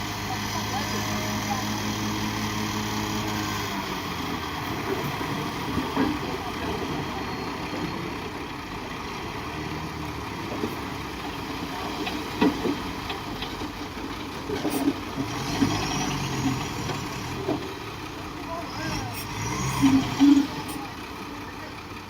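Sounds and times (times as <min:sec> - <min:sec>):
diesel construction machinery running: 0:00.0 - 0:22.0.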